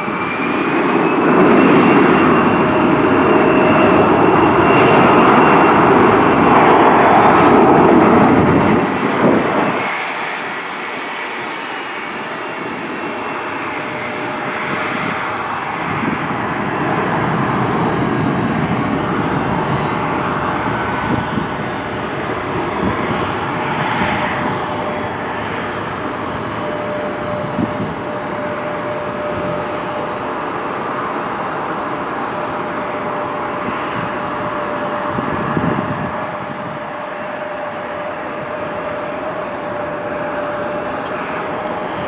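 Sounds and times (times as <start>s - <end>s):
jet engines rushing and whining: 0.0s - 42.0s.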